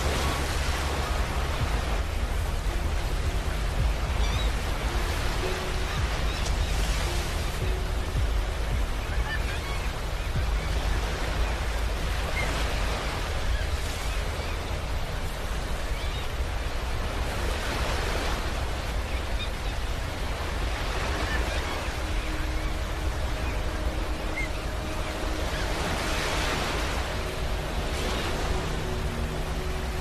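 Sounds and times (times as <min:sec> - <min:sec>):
waves breaking on beach: 0:00.0 - 0:30.0.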